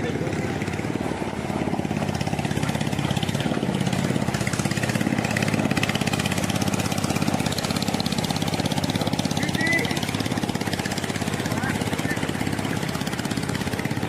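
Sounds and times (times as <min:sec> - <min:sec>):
small engine running steadily: 0:00.0 - 0:14.0.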